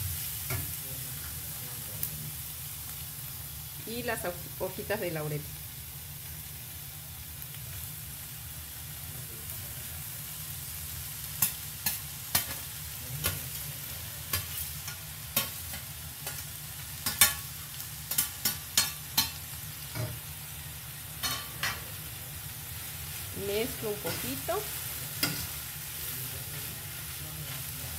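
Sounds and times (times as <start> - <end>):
food frying in a pan: 0.0 - 27.9.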